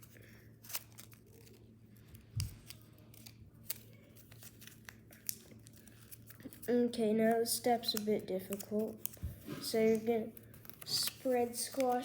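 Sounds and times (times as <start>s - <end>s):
paper being folded and creased: 0.0s - 12.0s
sharp paper crackles: 0.0s - 12.0s.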